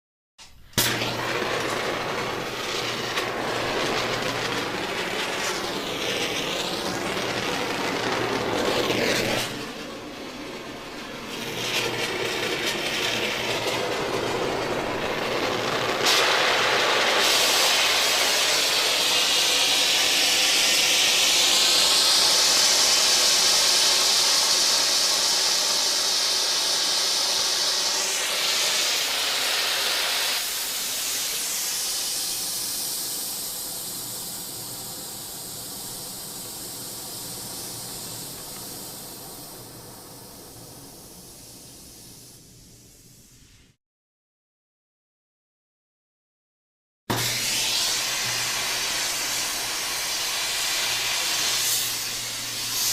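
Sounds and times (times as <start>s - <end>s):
welding torch flame hissing: 0.4s - 43.8s, 47.1s - 52.9s.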